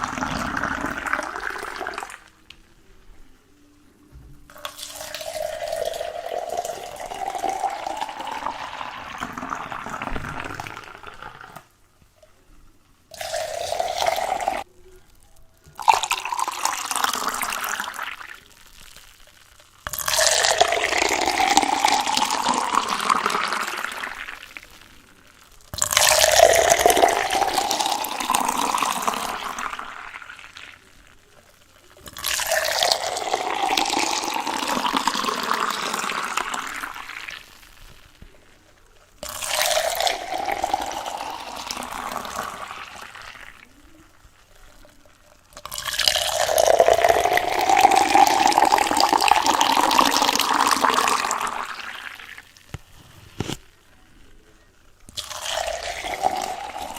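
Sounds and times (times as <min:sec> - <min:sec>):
water pouring into container: 0:00.0 - 0:03.0, 0:04.5 - 0:11.7, 0:13.1 - 0:53.7, 0:55.1 - 0:56.9.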